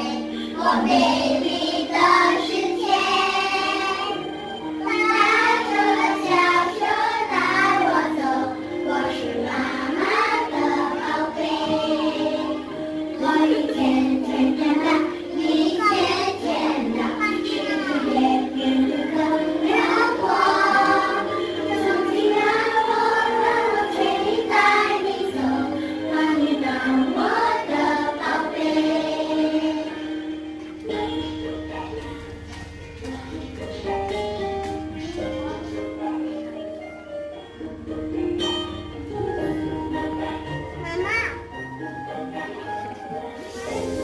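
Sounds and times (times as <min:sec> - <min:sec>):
children singing song: 0:00.0 - 0:36.6, 0:42.4 - 0:44.0.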